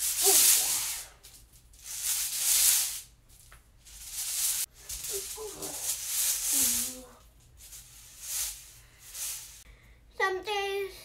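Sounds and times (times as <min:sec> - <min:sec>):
hula hoop swishing: 0:00.0 - 0:09.6.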